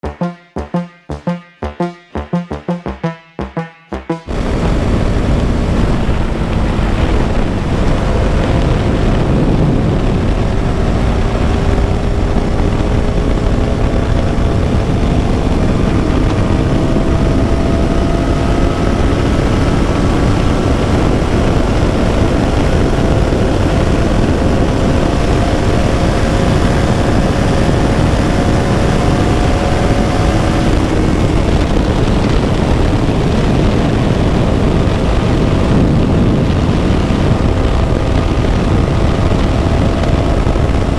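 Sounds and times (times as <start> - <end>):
motorcycle engine running: 4.3 - 40.9.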